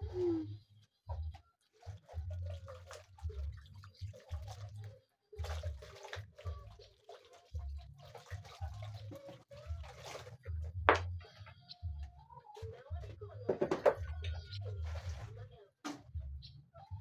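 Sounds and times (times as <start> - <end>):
water splashing into plastic basin: 1.1 - 11.5, 12.5 - 16.2.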